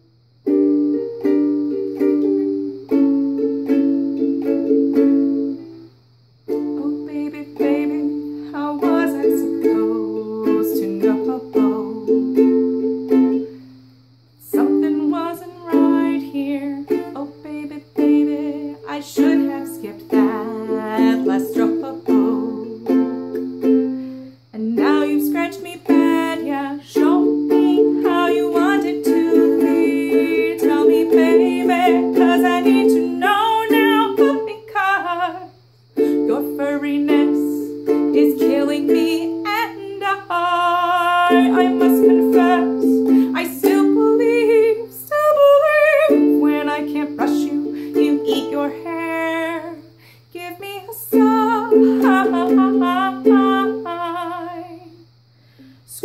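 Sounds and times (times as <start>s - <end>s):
ukulele strumming chords: 0.4s - 5.9s, 6.5s - 13.8s, 14.5s - 49.9s, 50.5s - 54.9s
woman singing: 6.5s - 12.7s, 14.4s - 23.4s, 24.5s - 55.0s.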